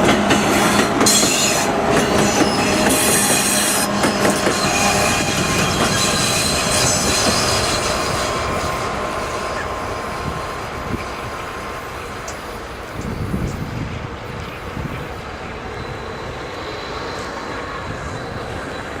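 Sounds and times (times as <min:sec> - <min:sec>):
train rumbling on rails: 0:00.0 - 0:19.0
train wheels squealing: 0:00.4 - 0:19.0.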